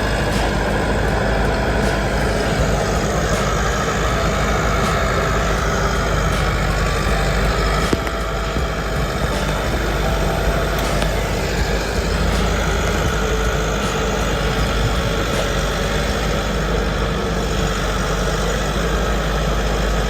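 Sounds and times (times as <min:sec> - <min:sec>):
machine engine drone: 0:00.0 - 0:20.0.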